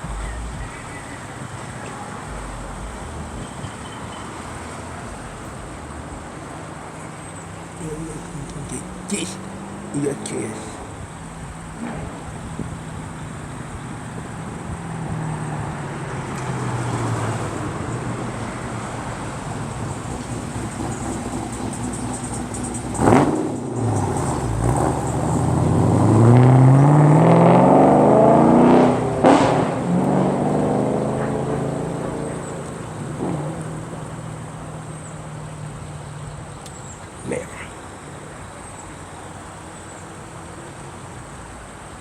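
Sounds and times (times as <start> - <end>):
car engine accelerating: 0.0 - 40.5.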